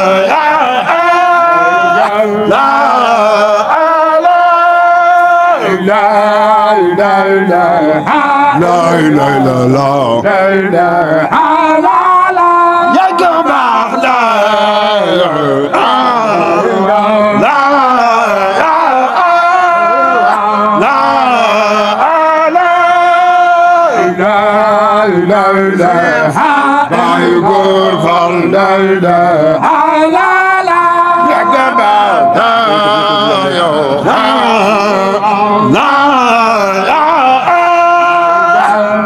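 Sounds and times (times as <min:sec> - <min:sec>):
amplified lead singer: 0:00.0 - 0:39.0
men chanting: 0:00.0 - 0:39.0.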